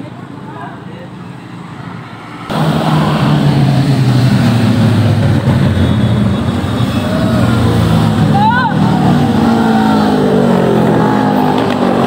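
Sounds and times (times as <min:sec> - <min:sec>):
motorcycle engines passing: 0:00.0 - 0:12.0.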